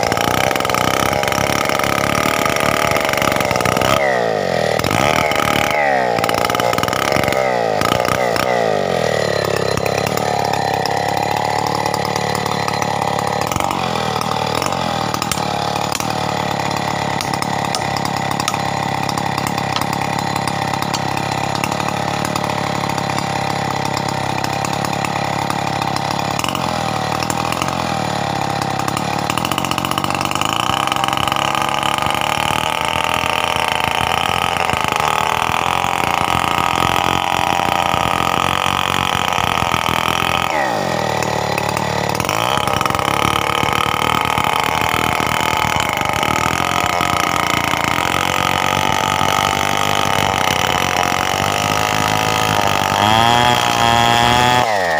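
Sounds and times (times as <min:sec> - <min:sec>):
chainsaw running hard: 0:00.0 - 0:54.9.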